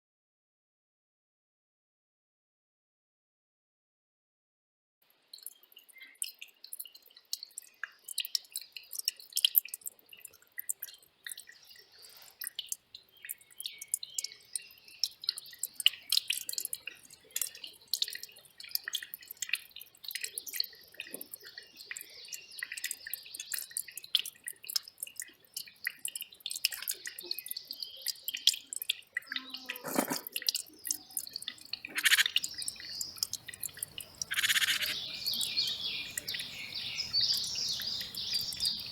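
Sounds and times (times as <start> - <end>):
stream trickling over rocks: 5.0 - 38.9.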